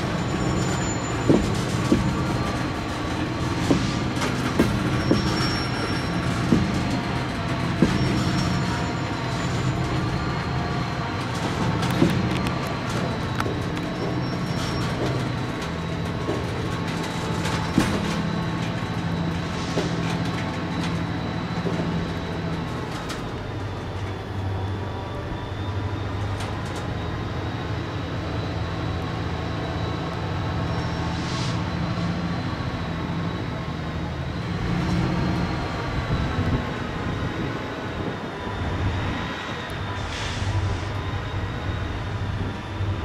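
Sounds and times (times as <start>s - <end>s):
locomotive engine drone: 0.0s - 43.0s
train cars clanking: 0.0s - 43.0s.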